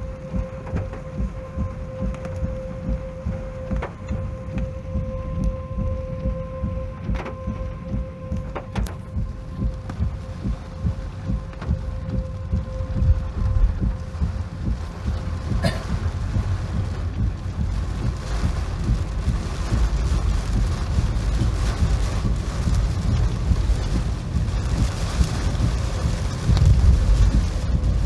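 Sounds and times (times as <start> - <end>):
rain rushing: 0.0 - 28.0
wind buffeting microphone: 0.0 - 28.0.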